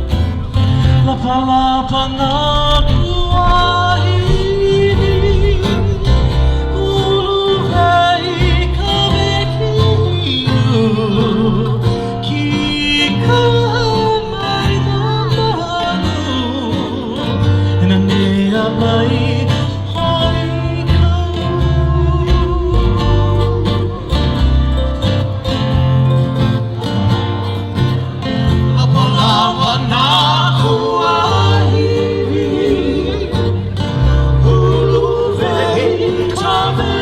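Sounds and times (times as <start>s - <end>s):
acoustic guitar and bass: 0.0s - 37.0s
vocal group singing: 0.0s - 37.0s.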